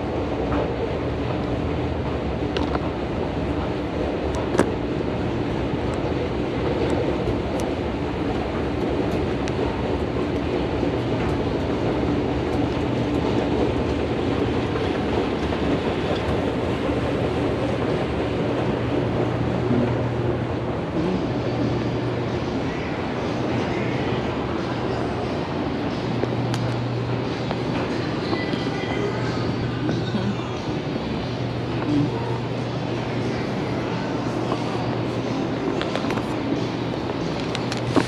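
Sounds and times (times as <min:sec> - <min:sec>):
low hum: 0:00.0 - 0:38.0
moving vehicle rumble: 0:00.0 - 0:38.0.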